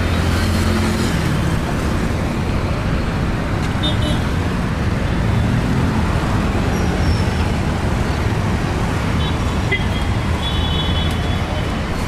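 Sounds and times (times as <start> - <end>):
city road traffic rumble: 0.0 - 12.0.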